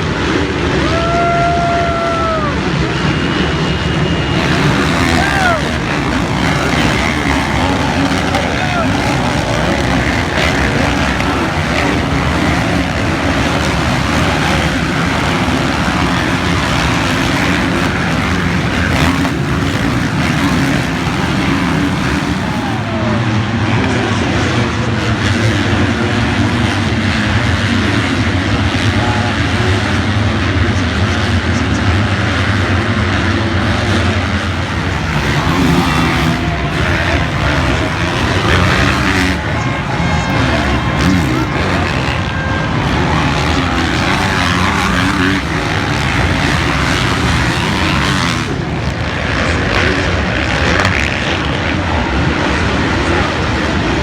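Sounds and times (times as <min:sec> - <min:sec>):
constant rushing noise: 0:00.0 - 0:54.0
motocross motorcycle engine: 0:00.0 - 0:54.0.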